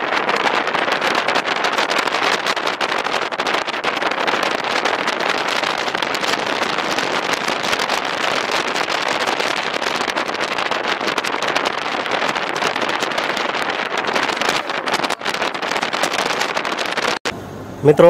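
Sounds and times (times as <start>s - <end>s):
wind buffeting microphone: 0.0s - 17.3s
wind and road noise: 0.0s - 18.0s.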